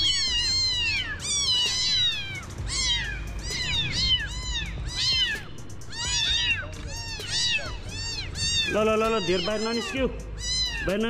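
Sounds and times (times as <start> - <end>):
kittens mewing: 0.0 - 11.0.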